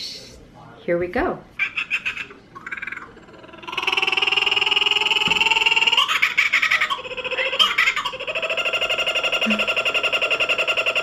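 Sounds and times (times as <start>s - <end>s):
kookaburra call through phone speaker: 1.6s - 11.0s.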